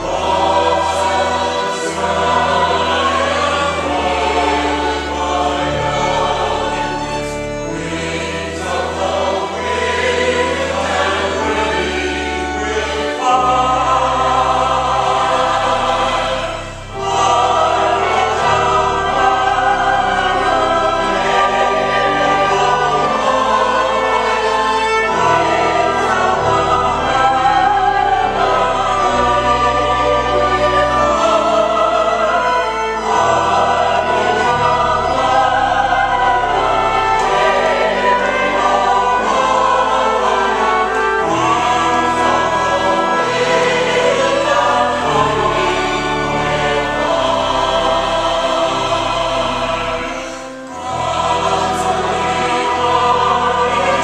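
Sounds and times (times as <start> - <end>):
choir singing a hymn: 0.0 - 54.0
pipe organ: 0.0 - 54.0.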